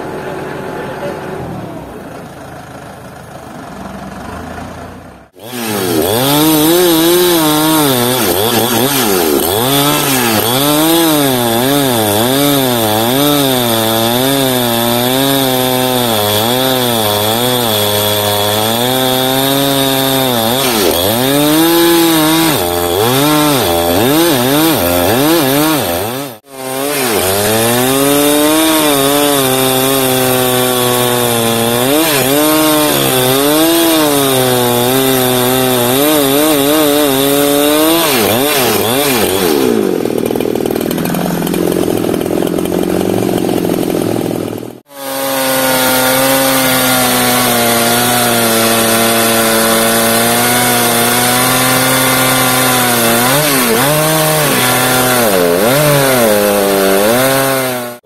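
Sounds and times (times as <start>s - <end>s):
chainsaw cutting log: 5.3s - 58.0s.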